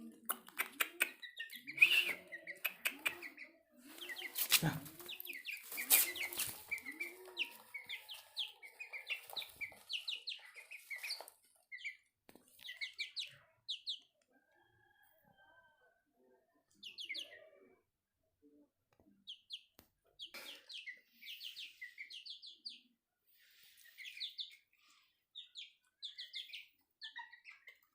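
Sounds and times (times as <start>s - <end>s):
chicks peeping: 0.0s - 14.2s, 16.6s - 17.7s, 19.0s - 27.9s.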